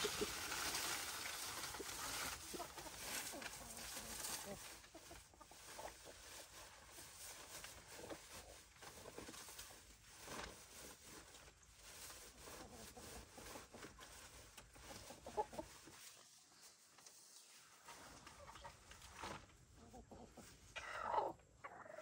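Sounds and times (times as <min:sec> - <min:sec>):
chickens clucking: 0:00.0 - 0:10.0, 0:12.3 - 0:22.0.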